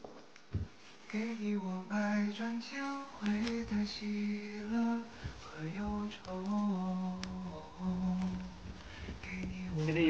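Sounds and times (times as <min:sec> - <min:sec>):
wordless humming vocal melody: 0:01.1 - 0:10.0.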